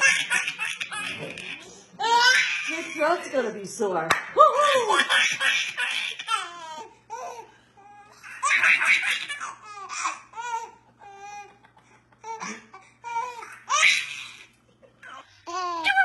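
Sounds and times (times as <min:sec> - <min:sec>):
baby laughing: 0:00.0 - 0:03.0, 0:04.8 - 0:16.0.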